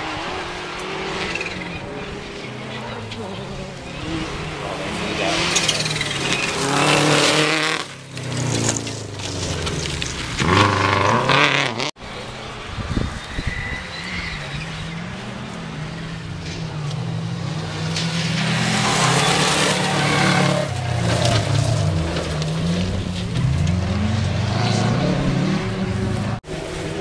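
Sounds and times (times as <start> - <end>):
distant rally car engine: 0.0 - 27.0
rally car engine revving: 0.0 - 27.0.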